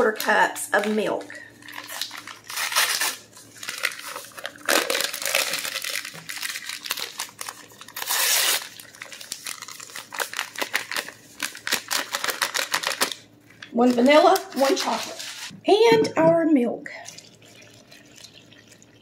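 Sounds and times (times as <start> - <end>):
paper pouches tearing and crinkling: 0.0 - 15.5.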